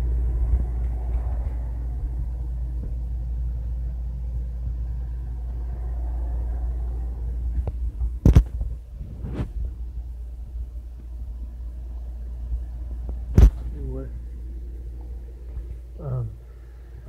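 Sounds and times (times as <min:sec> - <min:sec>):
vehicle rumble from inside: 0:00.0 - 0:17.0.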